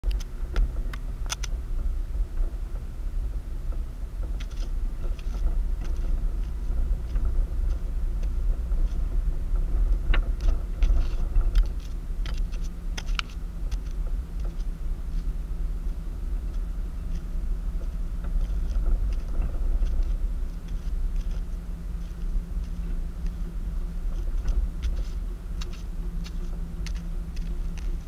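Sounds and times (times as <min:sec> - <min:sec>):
road and engine rumble: 0:00.0 - 0:28.0
light clicks and rattles: 0:00.1 - 0:28.0.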